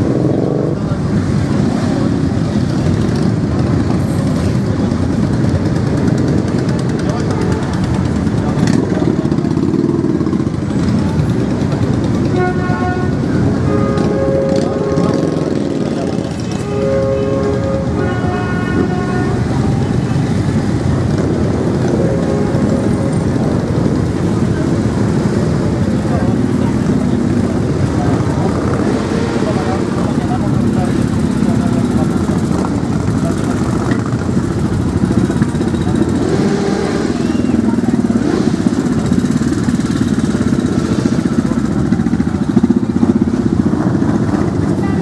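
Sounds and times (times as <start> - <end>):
horns tooting: 0.0 - 40.1
motorcycle engines passing: 0.0 - 45.0.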